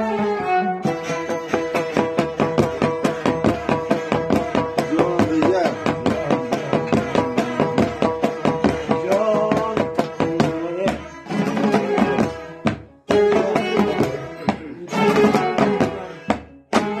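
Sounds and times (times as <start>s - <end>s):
bowed fiddle melody: 0.0s - 17.0s
lute strummed fast: 0.0s - 17.0s.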